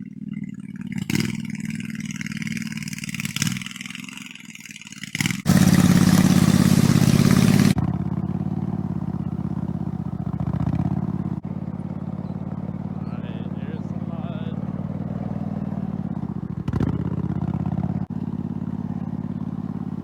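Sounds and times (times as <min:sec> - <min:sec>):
riding mower engine running: 0:00.0 - 0:20.0.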